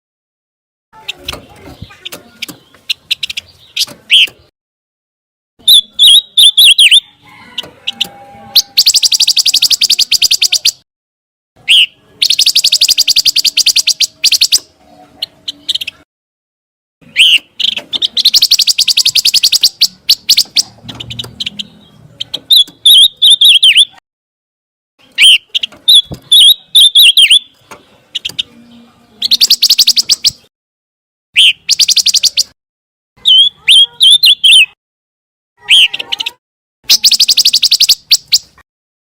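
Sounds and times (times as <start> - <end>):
songbird trilling and whistling: 1.0 - 4.5, 5.6 - 10.8, 11.6 - 16.0, 17.0 - 24.0, 25.0 - 30.5, 31.4 - 32.6, 33.2 - 34.8, 35.6 - 38.6.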